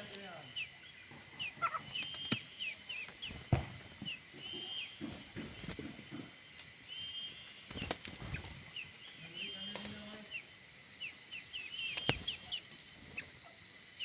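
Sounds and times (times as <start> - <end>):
birds whistling: 0.0 - 14.0.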